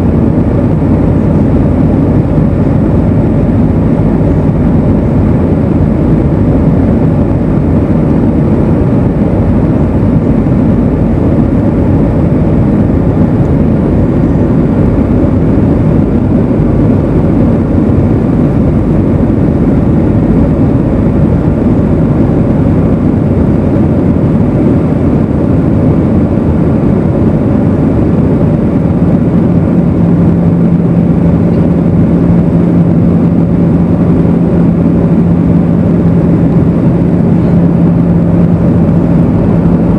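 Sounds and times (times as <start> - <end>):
aircraft cabin engine rumble: 0.0 - 39.9
steady low hum: 0.0 - 39.9.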